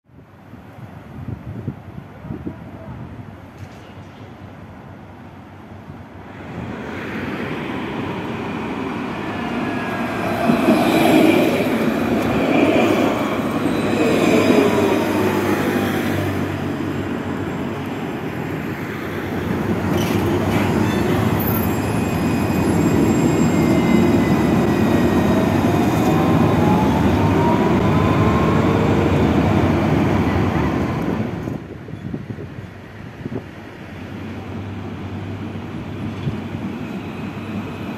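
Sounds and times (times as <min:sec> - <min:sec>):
tram wheels rumbling on rails: 0:06.1 - 0:37.9.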